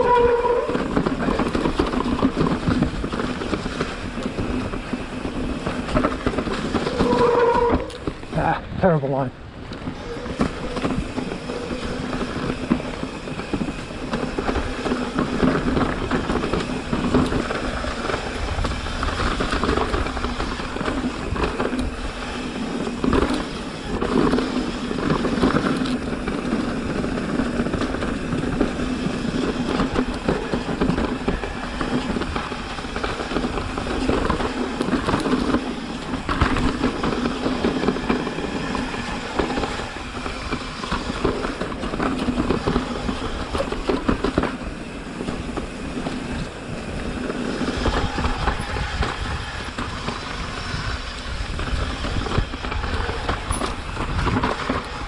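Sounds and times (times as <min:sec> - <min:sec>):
bike rattling with small knocks: 0:00.0 - 0:55.0
bike tyres rumbling over dirt: 0:00.0 - 0:55.0.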